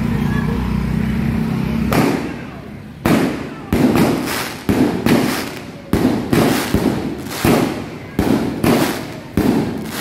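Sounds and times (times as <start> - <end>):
firework bangs with crackle: 1.9 - 10.0.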